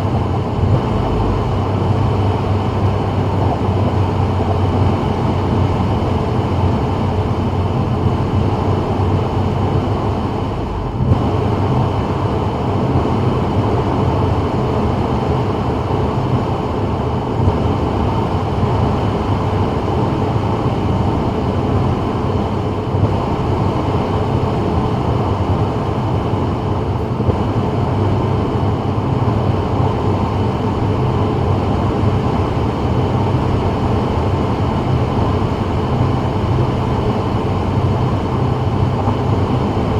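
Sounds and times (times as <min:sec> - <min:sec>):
low engine rumble: 0:00.0 - 0:39.9
road and tyre noise: 0:00.0 - 0:39.9.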